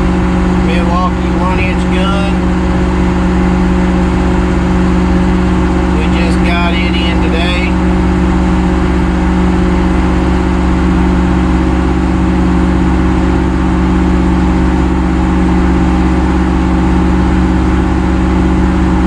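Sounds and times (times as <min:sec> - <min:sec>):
heavy equipment engine droning: 0:00.0 - 0:19.0.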